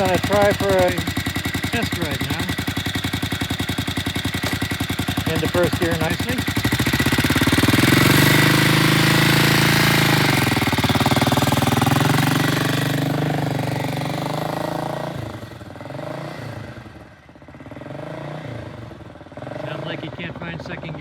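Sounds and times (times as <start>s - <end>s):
motorcycle engine pulling away: 0.0s - 21.0s.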